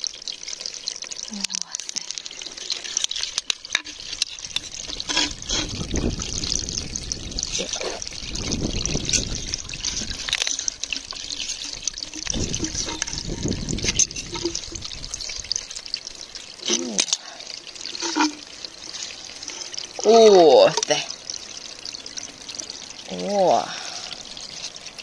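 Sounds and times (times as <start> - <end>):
water trickling and sloshing: 0.0 - 25.0.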